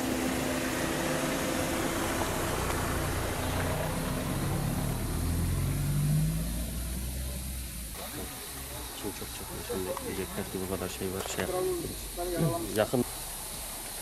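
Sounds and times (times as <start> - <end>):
road traffic noise: 0.0 - 14.0
vehicle engine running: 0.0 - 14.0.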